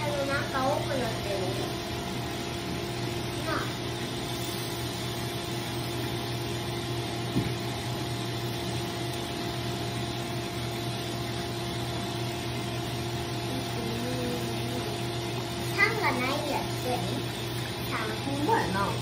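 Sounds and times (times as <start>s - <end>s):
pump humming: 0.0s - 19.0s
water hissing: 0.0s - 19.0s.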